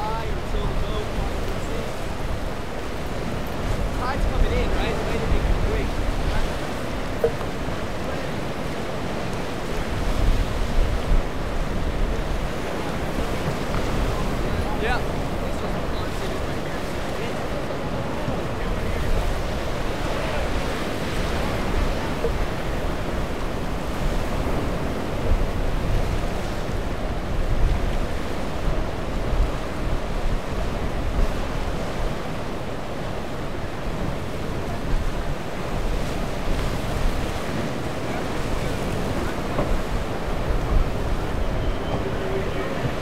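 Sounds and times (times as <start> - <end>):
ocean waves and surf: 0.0 - 43.0
wind rumbling on microphone: 0.0 - 43.0.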